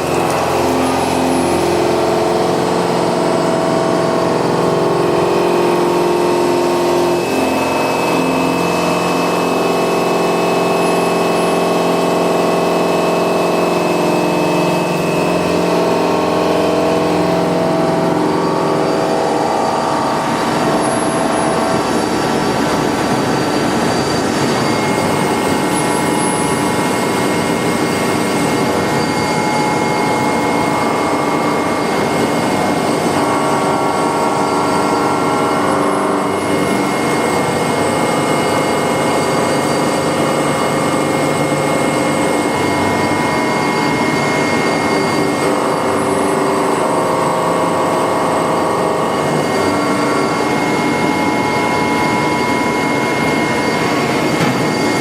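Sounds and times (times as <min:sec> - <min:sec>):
high ringing tones: 0:00.0 - 0:55.0
milling machine cutting metal: 0:00.0 - 0:55.0.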